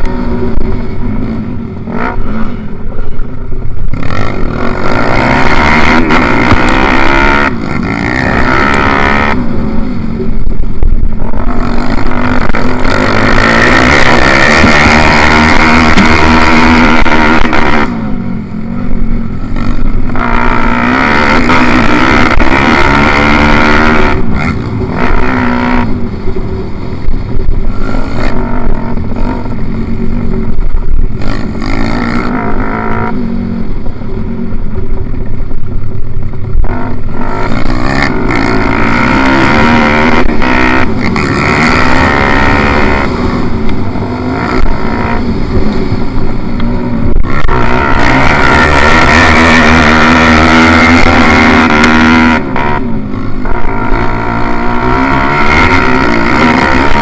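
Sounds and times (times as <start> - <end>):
pit bike engine revving: 3.8 - 33.6, 36.5 - 57.0.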